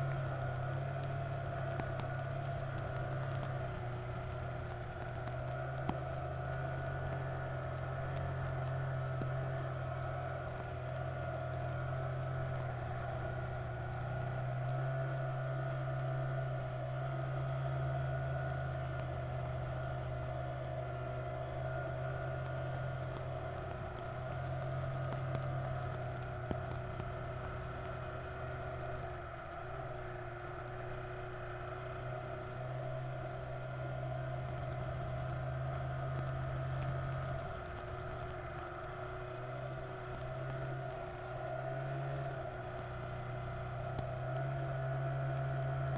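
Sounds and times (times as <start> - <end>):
engine running steadily: 0.0 - 45.9
small clicks: 0.0 - 45.9.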